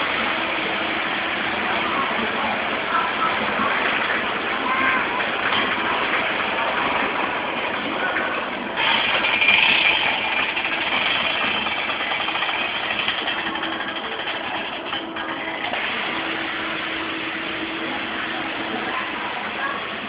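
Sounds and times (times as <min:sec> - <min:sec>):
carousel ride machine noise: 0:00.0 - 0:20.0.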